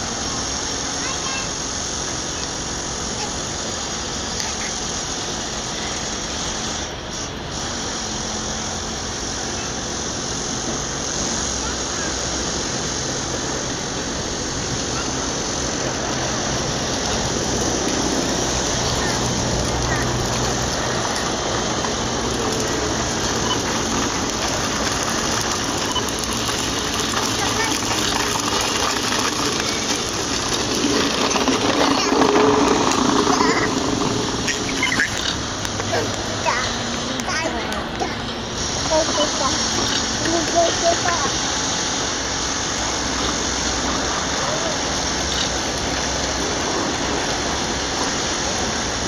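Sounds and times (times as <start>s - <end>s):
freight train on tracks: 0.0s - 49.0s.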